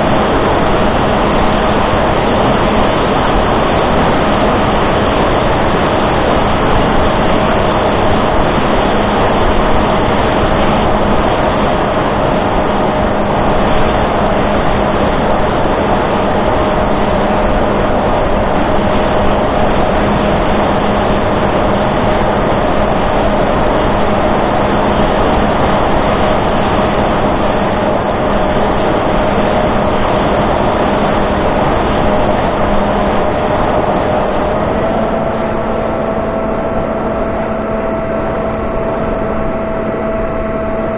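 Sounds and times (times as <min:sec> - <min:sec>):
electric motor and propeller hum: 0:00.0 - 0:40.9
wind rush: 0:00.0 - 0:40.9.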